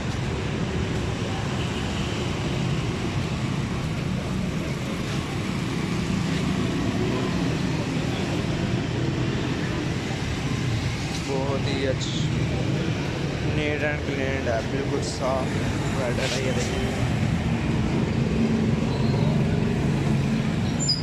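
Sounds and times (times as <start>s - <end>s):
road traffic hum: 0.0s - 21.0s.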